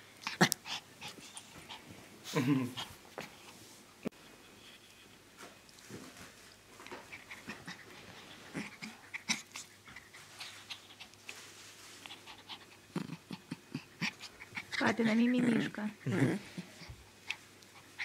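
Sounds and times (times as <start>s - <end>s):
puppy panting and snuffling: 0.2s - 3.8s, 5.8s - 18.0s.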